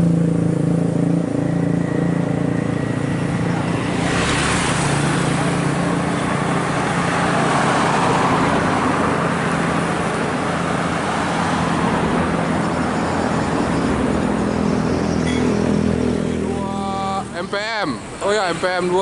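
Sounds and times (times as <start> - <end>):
bus engine running: 0.0 - 19.0
tyre and road noise: 0.0 - 19.0.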